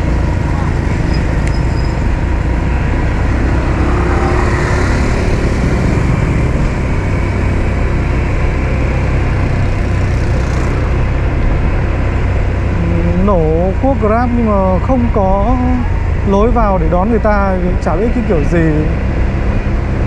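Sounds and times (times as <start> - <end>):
scooter engine rumble: 0.0 - 20.0
traffic: 0.0 - 20.0.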